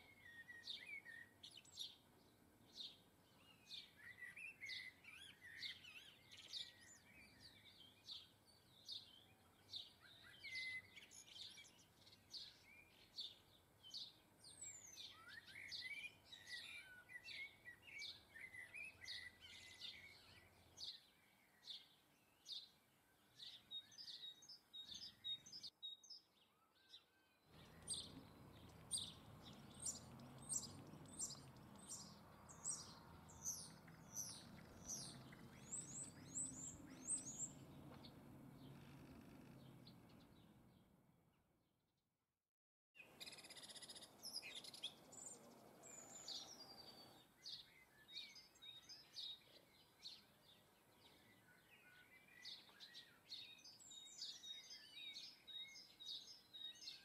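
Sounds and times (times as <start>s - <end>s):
small birds chirping: 0.0s - 41.2s, 43.0s - 57.0s.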